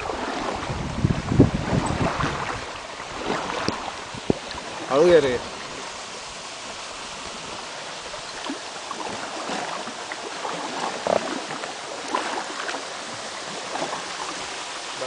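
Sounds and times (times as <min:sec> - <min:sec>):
paddles splashing in water: 0:00.0 - 0:15.0
rushing water: 0:00.0 - 0:15.0.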